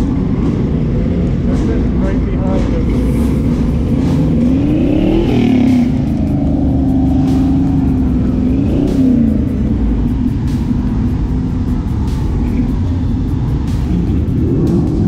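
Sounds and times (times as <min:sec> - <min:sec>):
background music: 0:00.0 - 0:15.0
car engine revving: 0:00.0 - 0:15.0.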